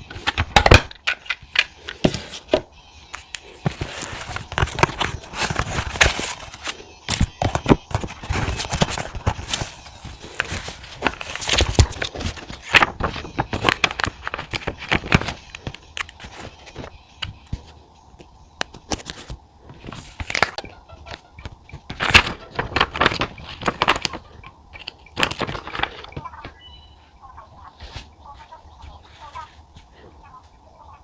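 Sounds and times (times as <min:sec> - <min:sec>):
paper crackling clicks: 0:00.0 - 0:26.6.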